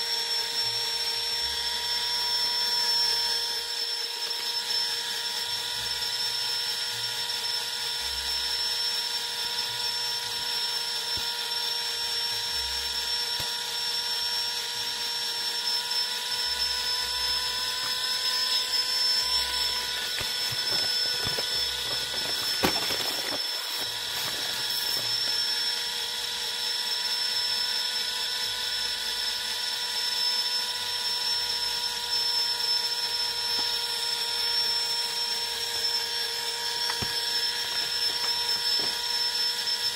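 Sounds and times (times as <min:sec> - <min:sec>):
small electric motor whine: 0:00.0 - 0:39.9.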